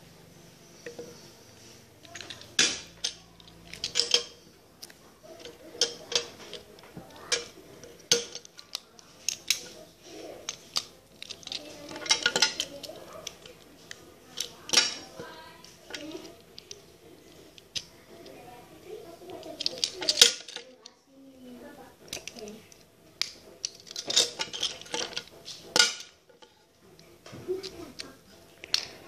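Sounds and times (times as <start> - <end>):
toy parts clicking on table: 2.0 - 21.0, 21.7 - 29.0.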